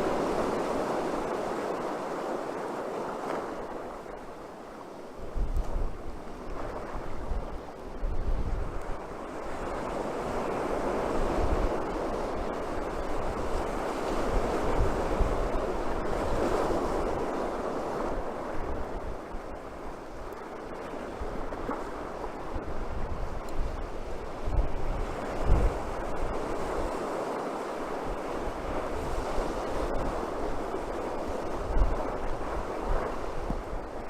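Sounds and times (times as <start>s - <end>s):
surf breaking on a beach: 0.0s - 34.0s
wind gusting across microphone: 0.0s - 34.0s.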